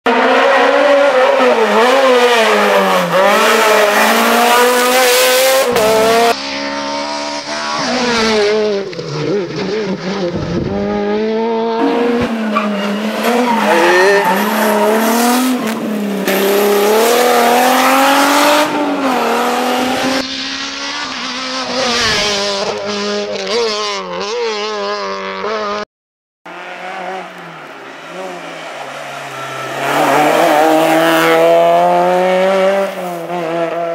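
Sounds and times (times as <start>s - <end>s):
rally car engines revving: 0.1s - 25.8s, 26.5s - 33.9s.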